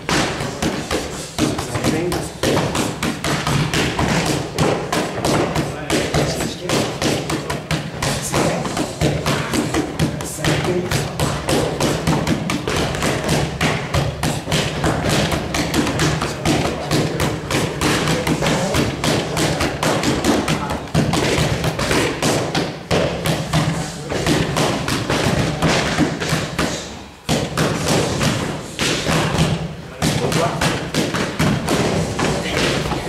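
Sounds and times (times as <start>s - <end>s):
boxing gloves hitting mitts: 0.0s - 33.0s.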